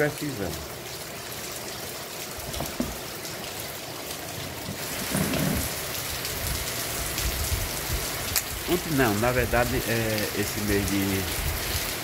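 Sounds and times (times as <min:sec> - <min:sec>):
heavy rain on flooded street: 0:00.0 - 0:12.0.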